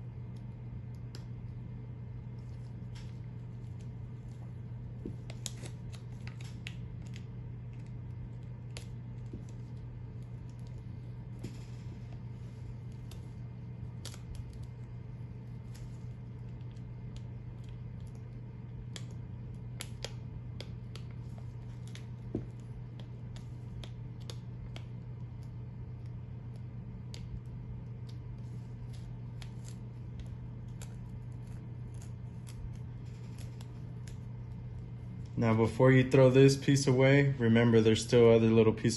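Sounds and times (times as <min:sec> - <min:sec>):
steady low hum: 0:00.0 - 0:38.9
paper peeling clicks and crackles: 0:02.3 - 0:35.4.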